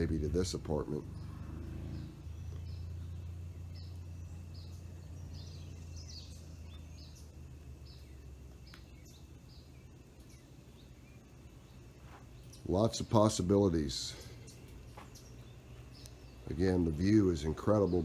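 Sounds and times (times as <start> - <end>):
bird chirping: 0.0 - 18.0
steady low hum: 0.0 - 18.0.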